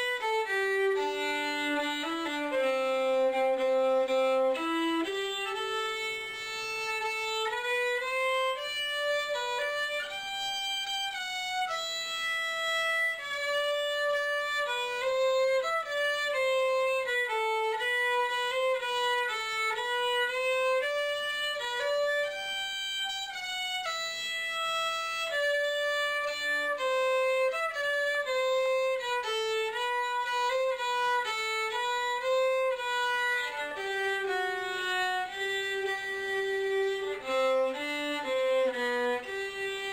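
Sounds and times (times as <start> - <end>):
solo violin melody: 0.0 - 39.9.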